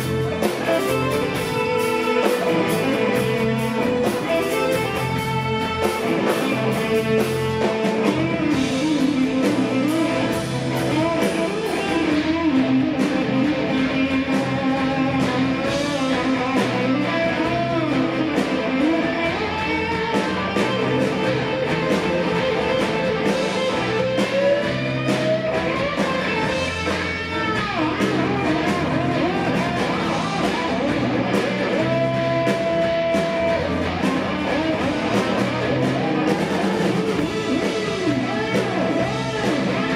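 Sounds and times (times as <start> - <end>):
electric guitar lead: 0.0 - 39.9
rock band playing live: 0.0 - 39.9.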